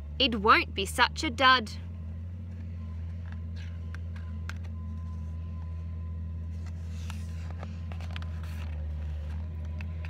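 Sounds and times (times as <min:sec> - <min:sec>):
low engine-like hum: 0:00.0 - 0:10.0.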